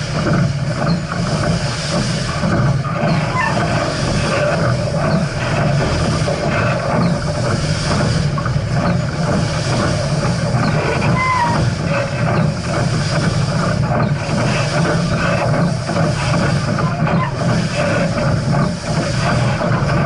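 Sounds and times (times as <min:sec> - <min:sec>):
steam train rumbling and clattering: 0:00.0 - 0:20.0.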